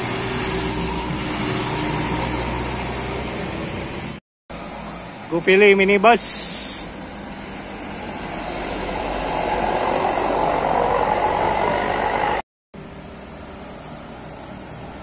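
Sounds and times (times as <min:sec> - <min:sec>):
minibus passing by: 0:00.0 - 0:15.0
steady engine noise: 0:00.0 - 0:15.0.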